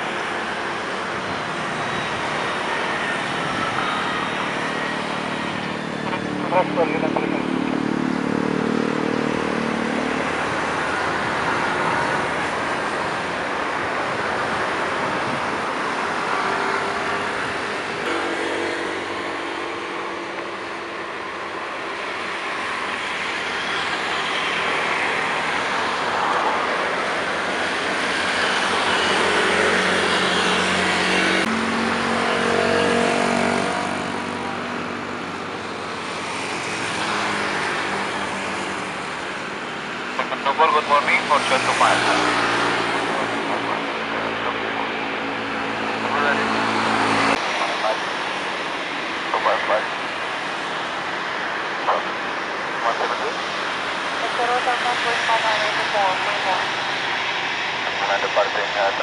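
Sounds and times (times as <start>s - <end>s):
engine noise: 0.0s - 59.0s.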